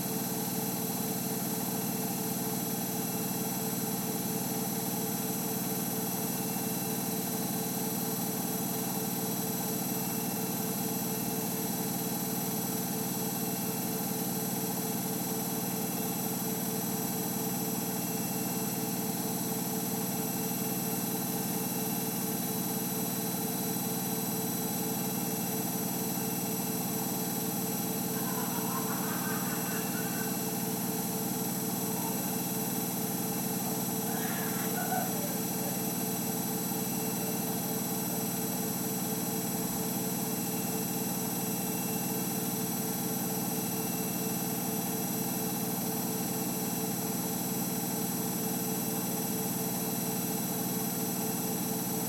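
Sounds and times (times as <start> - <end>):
washing machine spinning: 0.0 - 46.3.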